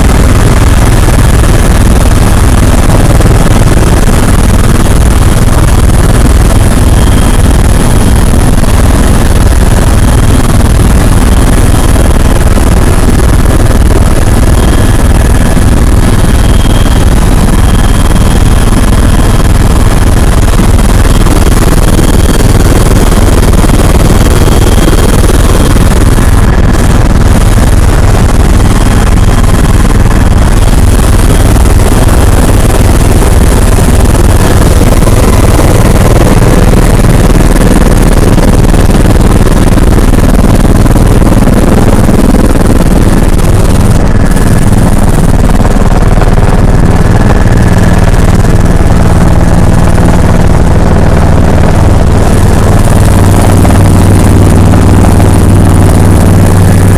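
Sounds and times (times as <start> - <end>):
helicopter rotor beating: 0.0 - 56.9.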